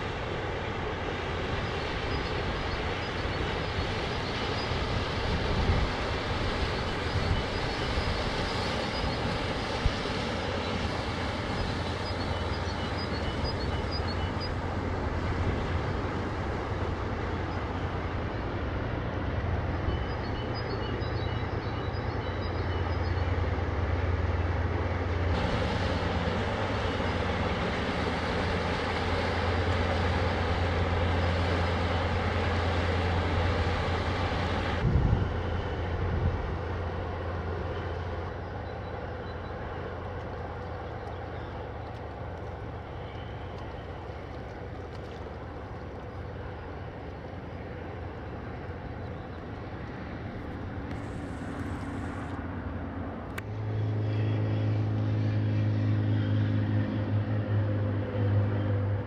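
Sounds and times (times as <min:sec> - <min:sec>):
broad rushing noise: 0:00.0 - 0:22.1, 0:22.7 - 0:59.0
ship diesel engine droning: 0:00.0 - 0:59.0.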